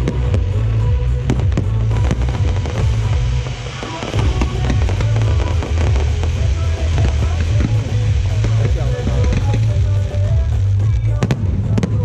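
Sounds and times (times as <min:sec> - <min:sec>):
fireworks bursting and crackling: 0:00.0 - 0:12.0
loud music with heavy bass: 0:00.0 - 0:12.0.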